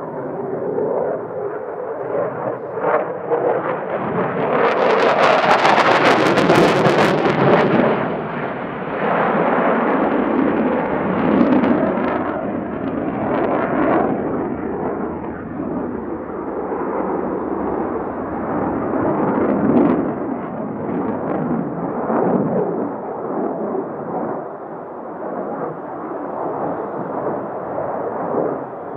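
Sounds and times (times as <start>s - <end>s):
jet engine rumble overhead: 0.0s - 28.9s.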